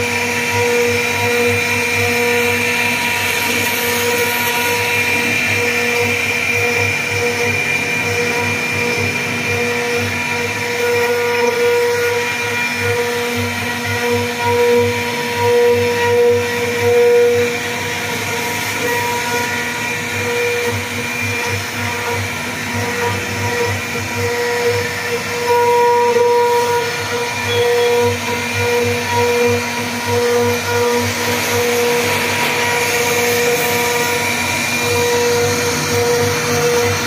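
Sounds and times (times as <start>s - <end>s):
router spindle whine: 0.0s - 37.0s.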